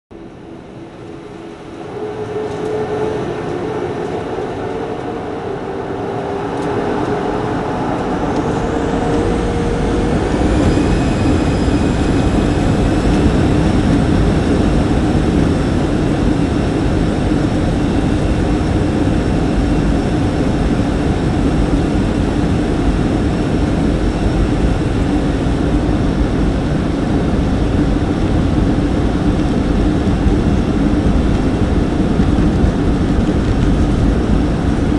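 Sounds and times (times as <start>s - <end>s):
rising engine whine: 0.1s - 34.9s
jet engines spooling up: 0.2s - 34.9s.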